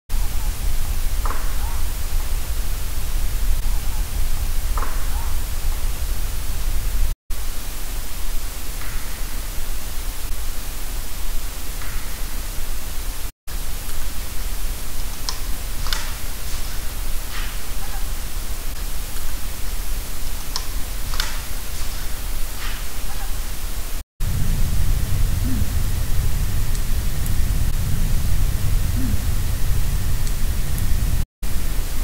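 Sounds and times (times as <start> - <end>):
steady hiss with low rumble: 0.1 - 32.0.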